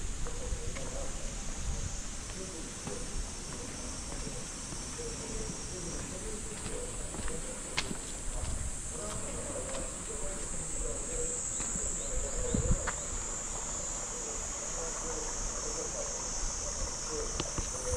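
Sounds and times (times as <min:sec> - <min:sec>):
insect chorus drone: 0:00.0 - 0:17.9.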